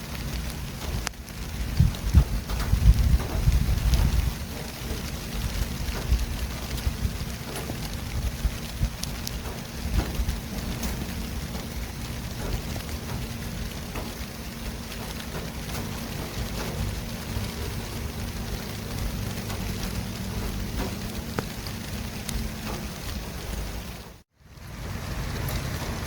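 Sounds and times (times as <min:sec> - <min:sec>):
deep traffic rumble: 0:00.0 - 0:26.0
small ticks and patters: 0:00.0 - 0:26.0.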